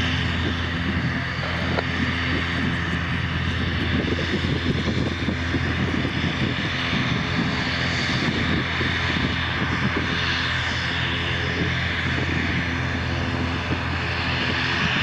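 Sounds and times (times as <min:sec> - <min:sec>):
airliner engines running: 0:00.0 - 0:15.0.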